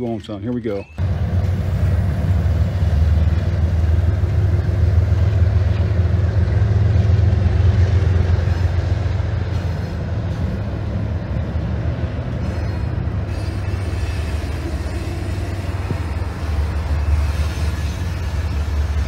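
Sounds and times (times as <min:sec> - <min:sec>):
locomotive engines rumbling: 0:00.0 - 0:19.0.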